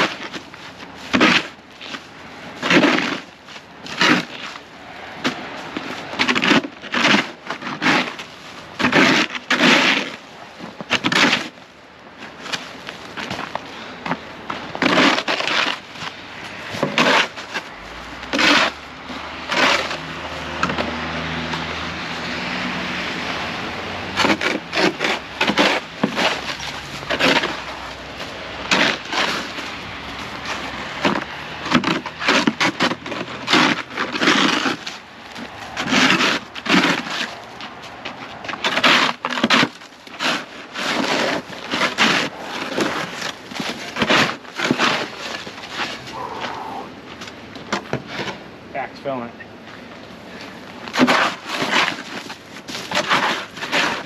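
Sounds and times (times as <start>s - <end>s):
shovel chopping and scraping ice: 0.0s - 11.6s, 12.2s - 21.7s, 23.2s - 49.2s, 50.4s - 54.0s.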